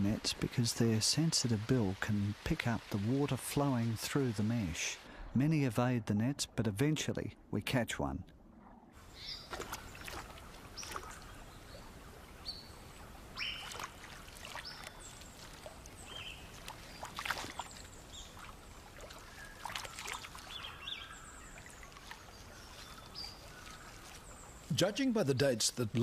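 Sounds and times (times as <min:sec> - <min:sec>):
running water hiss: 0:00.0 - 0:05.9, 0:09.0 - 0:26.0
water splashing: 0:00.0 - 0:07.1, 0:09.0 - 0:26.0.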